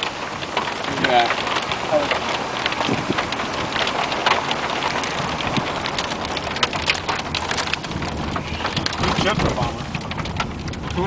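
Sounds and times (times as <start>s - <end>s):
hail and rain pelting down: 0.0s - 11.0s
hail hitting car roof: 0.0s - 11.0s.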